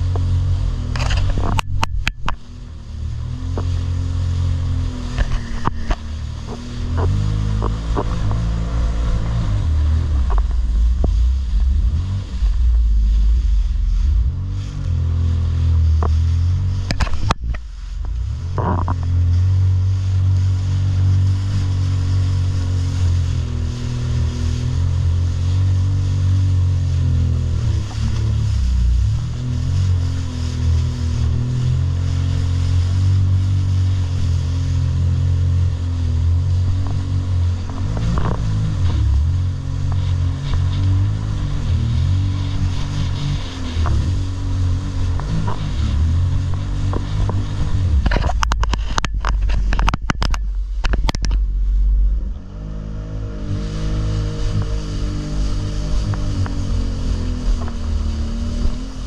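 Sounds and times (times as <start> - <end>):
jet ski engine running: 0.0 - 59.0.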